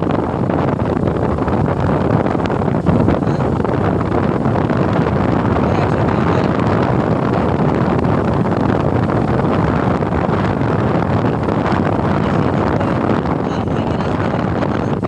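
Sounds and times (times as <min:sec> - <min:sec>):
motorcycle ride rumble: 0:00.0 - 0:15.0
wind buffeting microphone: 0:00.0 - 0:15.0.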